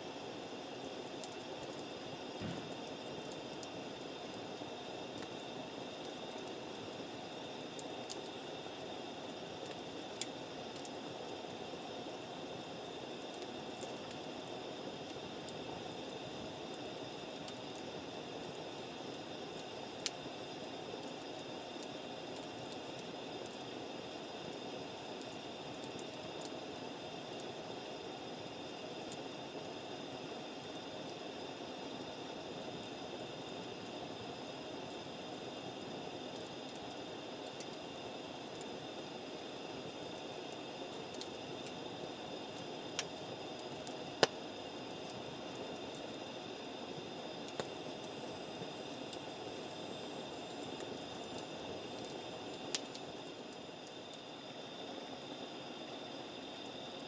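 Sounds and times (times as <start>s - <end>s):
fire pops and crackles: 0.0s - 55.4s
campfire hissing: 0.0s - 57.0s.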